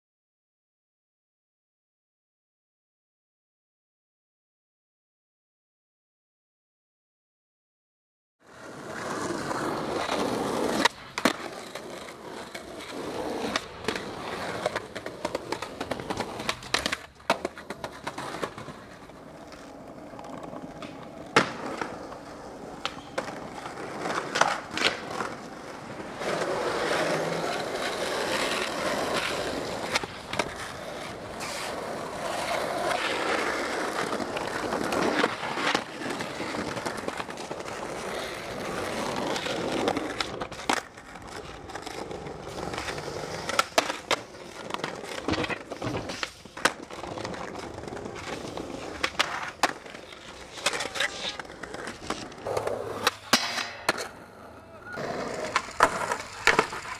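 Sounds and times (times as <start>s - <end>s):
skateboard wheels rolling on concrete: 8.4s - 56.9s
skateboard clacking on ground: 8.8s - 56.9s.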